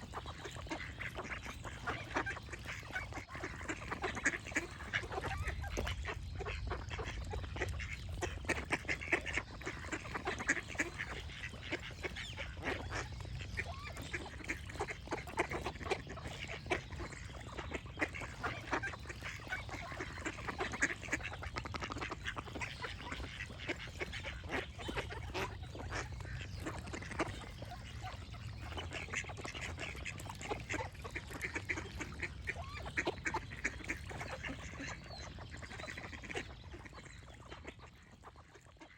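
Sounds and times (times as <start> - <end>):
ducks quacking: 0.0 - 38.9
birds chirping: 0.1 - 38.8.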